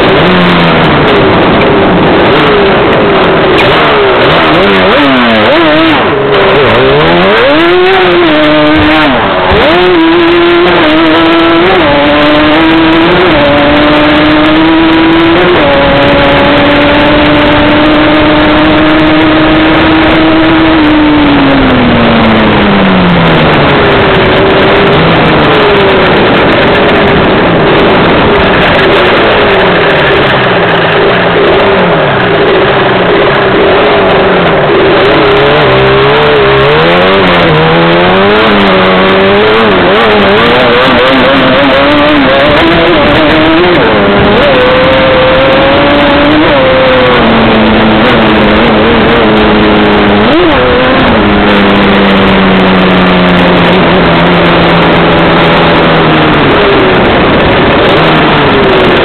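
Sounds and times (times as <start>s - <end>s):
two-stroke engine revving: 0.0s - 59.0s
wind rush on microphone: 0.0s - 59.0s.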